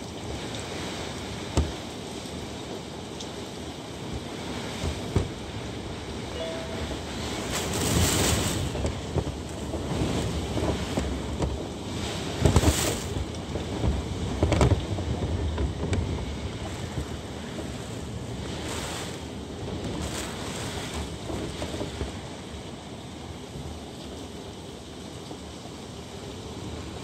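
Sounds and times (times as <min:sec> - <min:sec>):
wind blowing in gusts: 0:00.0 - 0:24.4.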